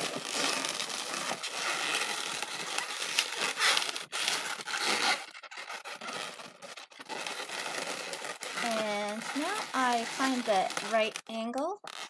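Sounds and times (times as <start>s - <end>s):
balloon rubbing squeaks: 0.0s - 12.0s.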